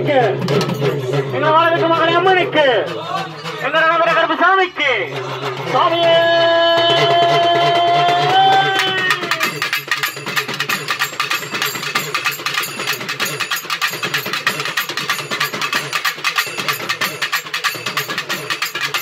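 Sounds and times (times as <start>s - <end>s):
drum ensemble fast rhythm: 0.0s - 19.0s.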